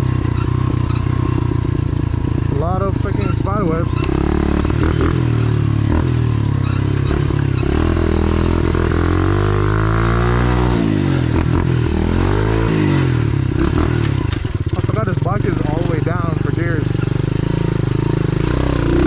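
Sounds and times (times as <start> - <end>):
motorbike engine under throttle: 0.0 - 19.0.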